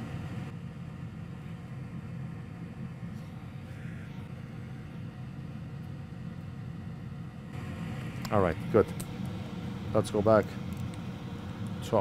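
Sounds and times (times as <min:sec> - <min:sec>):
equipment hum with hiss: 0:00.0 - 0:12.0.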